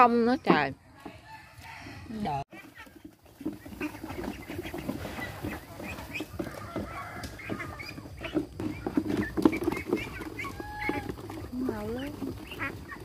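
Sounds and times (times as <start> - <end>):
ducks quacking: 2.4 - 13.0.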